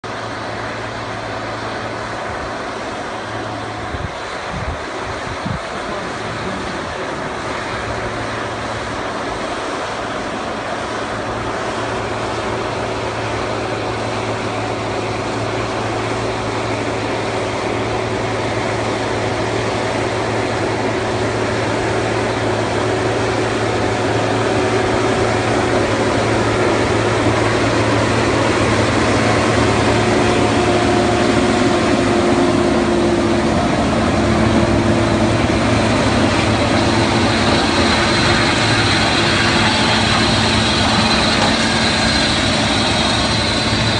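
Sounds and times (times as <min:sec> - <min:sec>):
tractor diesel engine humming: 0:00.0 - 0:43.9.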